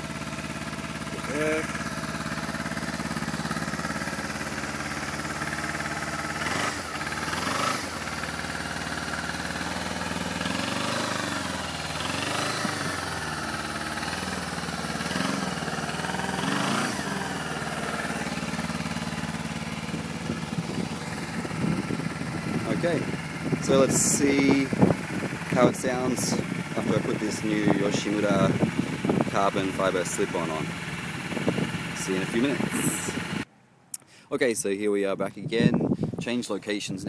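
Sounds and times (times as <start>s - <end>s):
motorcycle engine idling and revving: 0.0s - 33.5s.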